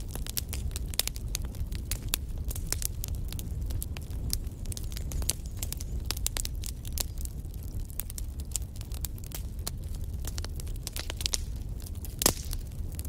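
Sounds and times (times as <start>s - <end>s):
fire crackling and popping: 0.0s - 13.0s
low fire rumble: 0.0s - 13.0s.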